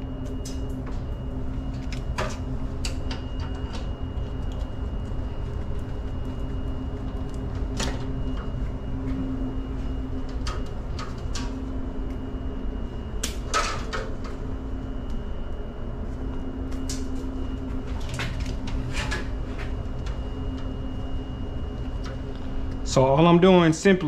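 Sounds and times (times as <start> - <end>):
low hum: 0.0 - 23.9.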